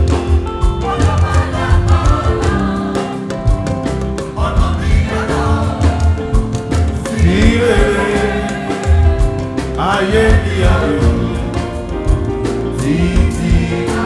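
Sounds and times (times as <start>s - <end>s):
choir singing a hymn: 0.0s - 14.0s
percussion beat: 0.0s - 14.0s.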